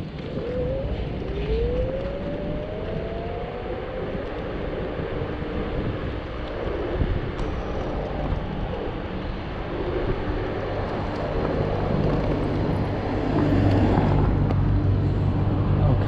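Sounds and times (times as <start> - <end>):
tyre and road noise: 0.0 - 16.0
wind rushing over microphone: 0.0 - 16.0.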